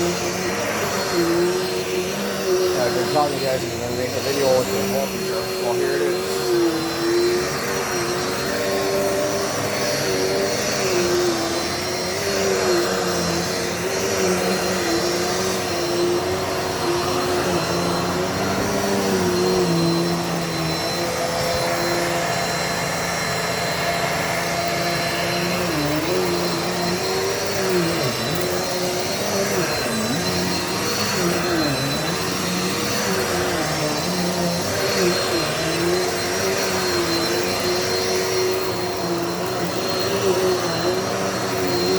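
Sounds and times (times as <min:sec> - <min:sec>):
vacuum cleaner motor whining: 0:00.0 - 0:41.9.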